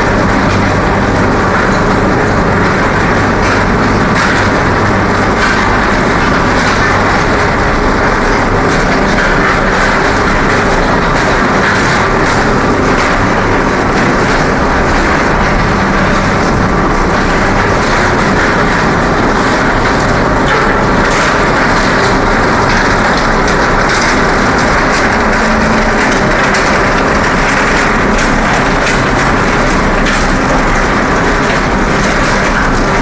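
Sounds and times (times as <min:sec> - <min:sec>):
industrial machinery rumbling: 0:00.0 - 0:33.0
rattling clatter: 0:00.0 - 0:33.0.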